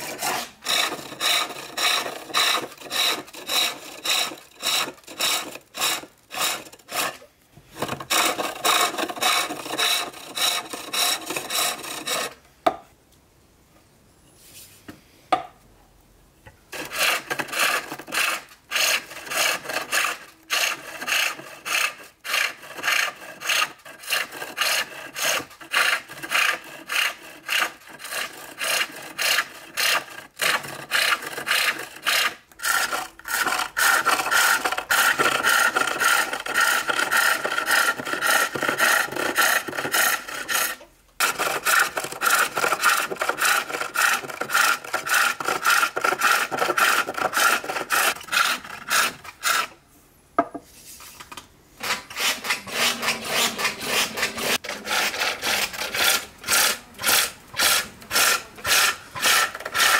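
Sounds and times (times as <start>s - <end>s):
hook tool scraping wood: 0.0s - 12.4s, 16.7s - 49.8s, 51.1s - 59.9s.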